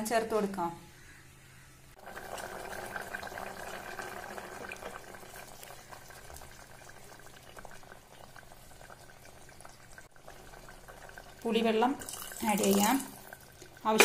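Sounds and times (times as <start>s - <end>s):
curry bubbling in a pot: 2.0s - 14.0s.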